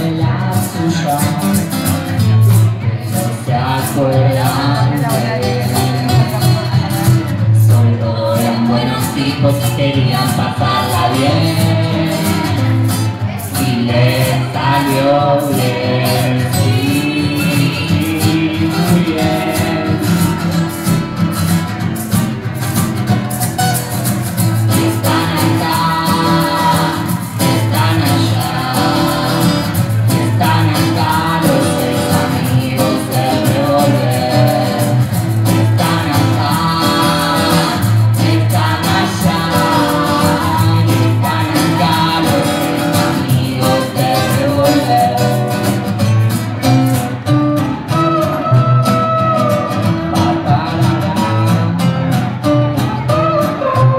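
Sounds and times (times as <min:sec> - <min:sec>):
live acoustic band music: 0:00.0 - 0:53.9
person singing lead: 0:02.8 - 0:20.9, 0:24.3 - 0:45.9, 0:47.6 - 0:51.8, 0:52.8 - 0:53.9.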